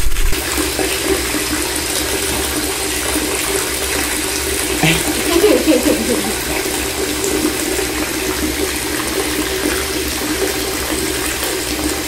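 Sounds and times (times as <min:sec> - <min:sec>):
water running into bathtub: 0:00.2 - 0:12.0.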